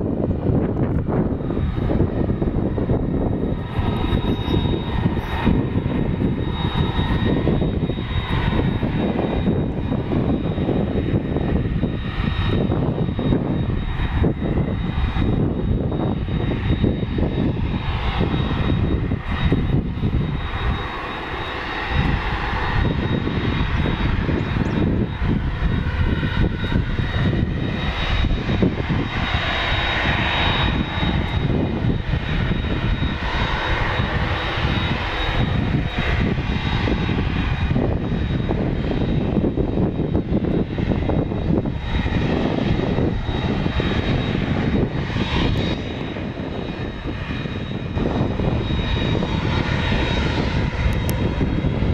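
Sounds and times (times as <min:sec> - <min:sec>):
jet engines whining: 0:00.0 - 0:51.9.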